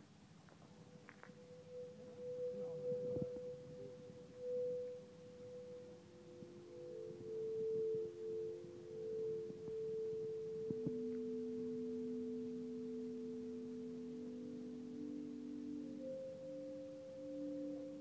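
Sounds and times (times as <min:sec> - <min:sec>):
ambient drone music: 0:00.8 - 0:18.0.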